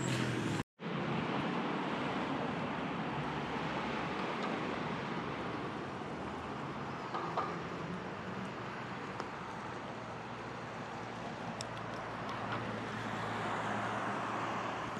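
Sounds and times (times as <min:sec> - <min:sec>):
distant vehicles: 0:00.0 - 0:14.9
wind: 0:00.0 - 0:14.9.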